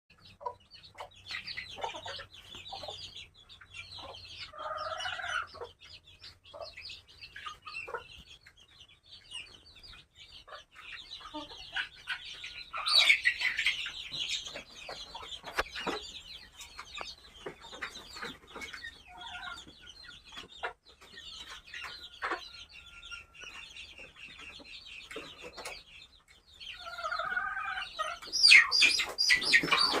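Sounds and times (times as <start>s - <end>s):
chicks peeping: 0.1s - 30.0s
hens clucking: 0.1s - 30.0s.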